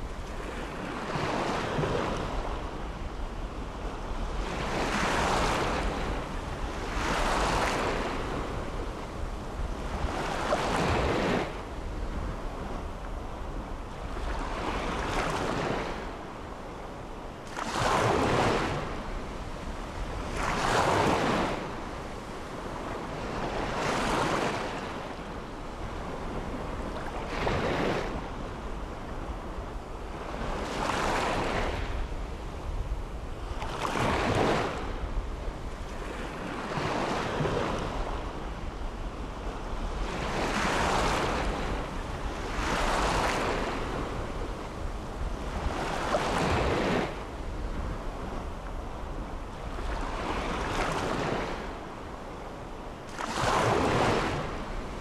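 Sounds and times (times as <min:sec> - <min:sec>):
waves breaking on sandy shore: 0:00.0 - 0:55.0.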